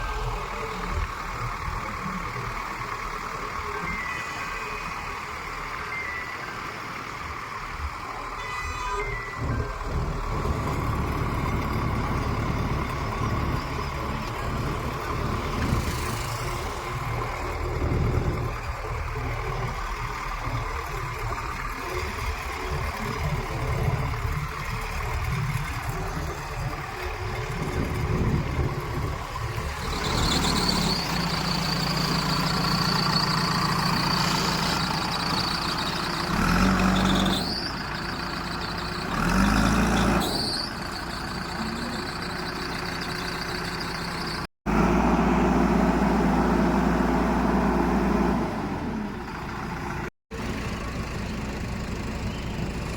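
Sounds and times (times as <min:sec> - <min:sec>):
heavy diesel engine revving: 0:09.4 - 0:52.9.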